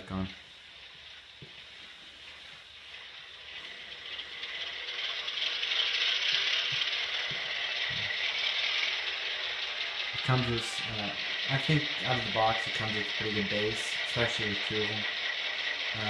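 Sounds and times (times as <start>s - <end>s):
model diesel engine sound from speakers: 0.0s - 16.0s.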